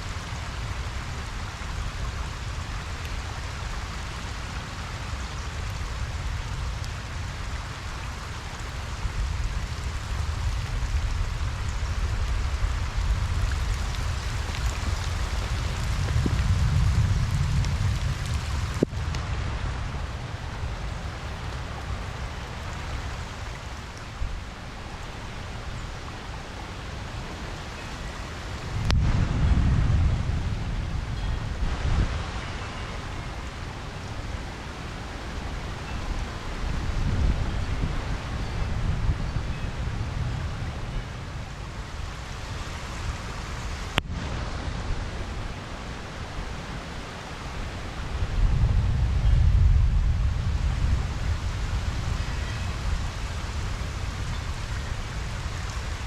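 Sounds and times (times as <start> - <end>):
rain falling on a pond: 0.0 - 56.0.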